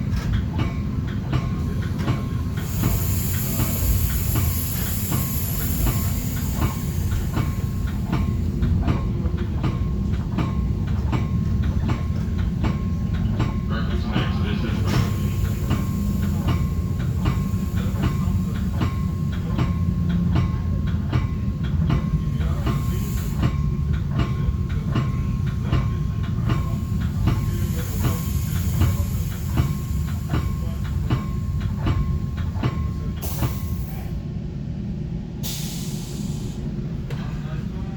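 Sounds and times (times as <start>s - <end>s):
wheels clickety-clack on rail joints: 0.0s - 34.0s
train rumble: 0.0s - 37.9s.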